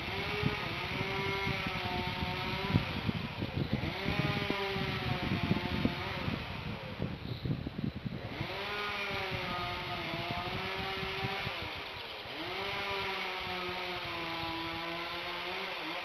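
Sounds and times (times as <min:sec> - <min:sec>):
chainsaw running: 0:00.0 - 0:16.0.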